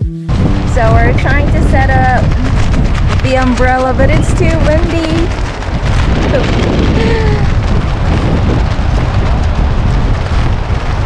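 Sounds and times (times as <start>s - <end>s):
wind buffeting microphone: 0.3s - 11.0s.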